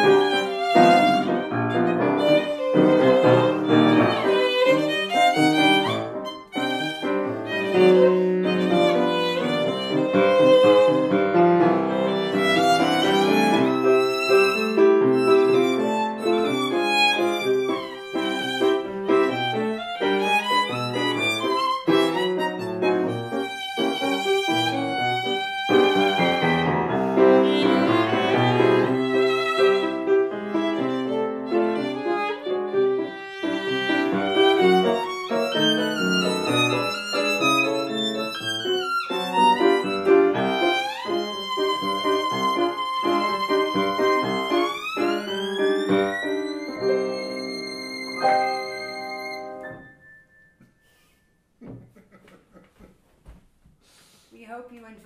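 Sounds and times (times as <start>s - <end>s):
violin melody: 0.0s - 50.1s
piano accompaniment: 0.0s - 51.1s.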